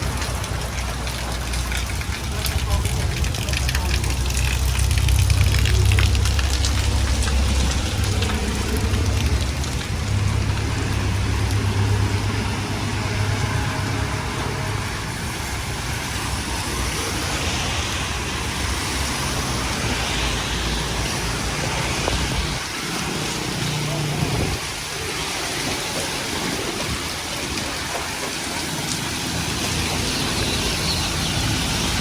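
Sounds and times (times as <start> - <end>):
deep rumble of passing vehicle: 0.0 - 25.7
rain falling on street: 0.0 - 32.0
traffic on wet road: 0.0 - 32.0.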